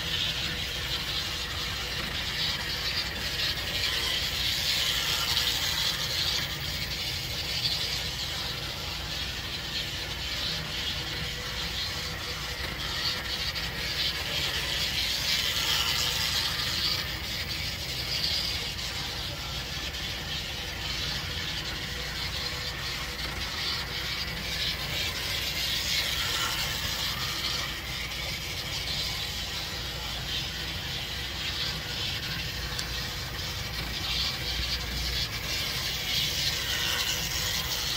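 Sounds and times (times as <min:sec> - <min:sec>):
small electric motor buzzing: 0:00.0 - 0:37.9
wheels clicking over rails: 0:00.0 - 0:37.9.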